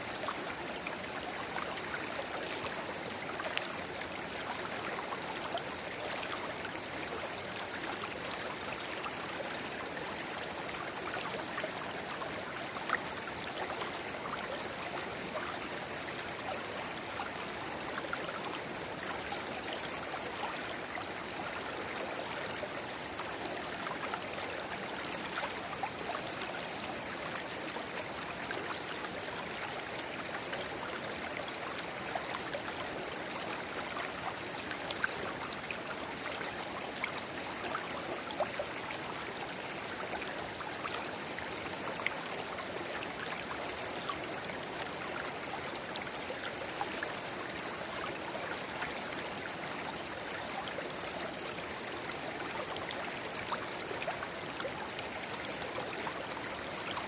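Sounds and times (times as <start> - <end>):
river babbling: 0.0 - 57.0.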